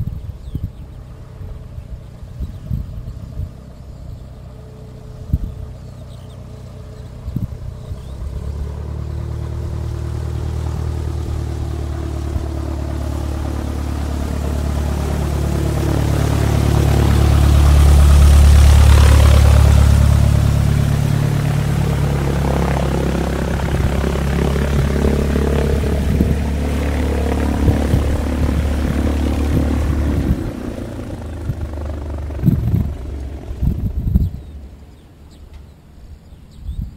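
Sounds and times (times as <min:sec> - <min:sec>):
propeller aircraft engine running: 0:00.0 - 0:36.9.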